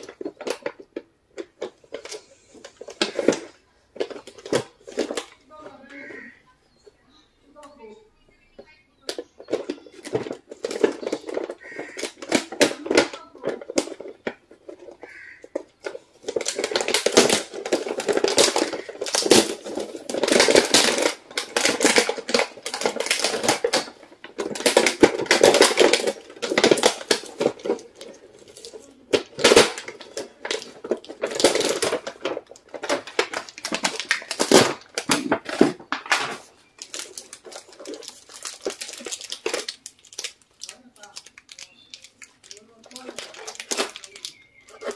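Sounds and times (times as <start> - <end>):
plastic wrappers crinkling: 0.0 - 6.4, 7.6 - 44.9.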